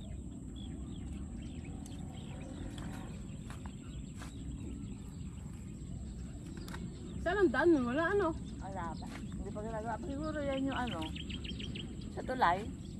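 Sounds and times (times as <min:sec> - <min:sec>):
low wind rumble on microphone: 0:00.0 - 0:12.9.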